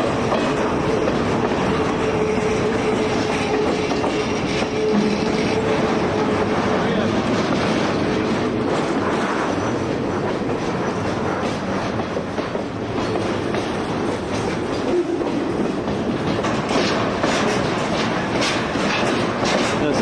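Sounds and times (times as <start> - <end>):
clicking over rail joints: 0.0 - 20.0
train wheels rumbling on rail: 0.0 - 20.0.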